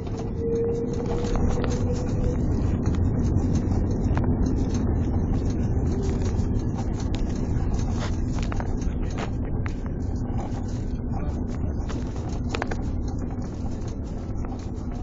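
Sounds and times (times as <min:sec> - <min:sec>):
engine rumble: 0:00.0 - 0:15.0
rushing air: 0:00.0 - 0:15.0
wheels on runway: 0:00.0 - 0:15.0.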